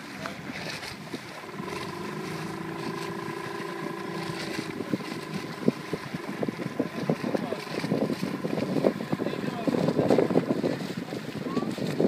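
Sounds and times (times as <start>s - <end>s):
outboard motor running: 0.0s - 12.0s
water noise: 0.0s - 12.0s
wind buffeting microphone: 0.0s - 12.0s.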